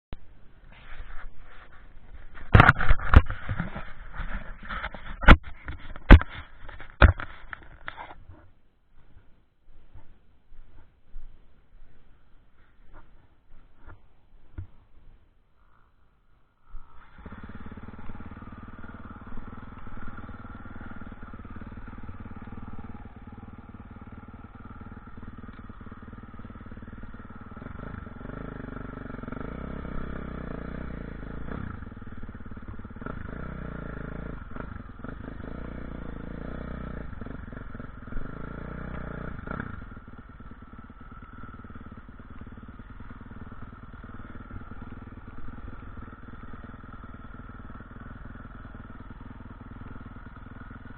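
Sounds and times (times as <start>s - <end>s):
motocross motorcycle revving: 1.6s - 8.2s, 16.6s - 50.9s.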